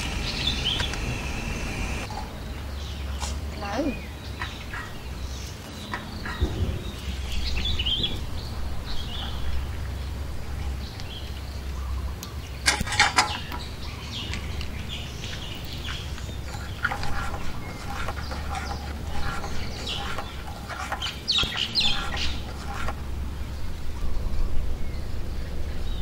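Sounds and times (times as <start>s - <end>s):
birds chirping and calling: 0.0s - 26.0s.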